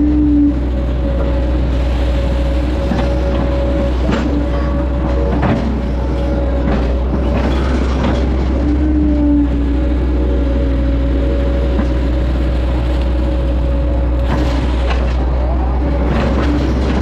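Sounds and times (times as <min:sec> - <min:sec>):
excavator diesel engine running: 0:00.0 - 0:17.0
hydraulic whine: 0:00.0 - 0:17.0.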